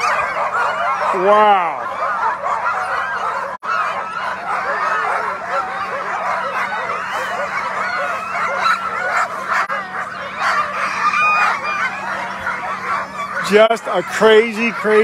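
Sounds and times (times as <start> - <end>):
dogs barking and yelping: 0.0 - 15.0.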